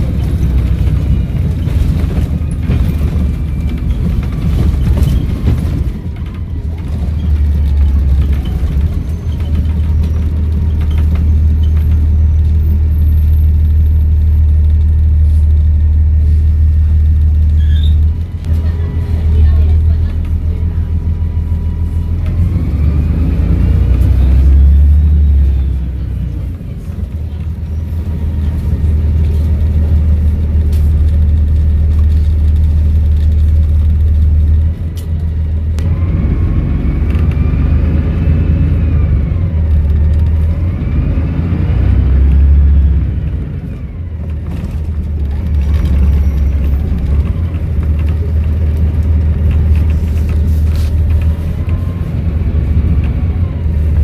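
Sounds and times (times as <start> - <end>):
bus engine accelerating: 0.0 - 54.0.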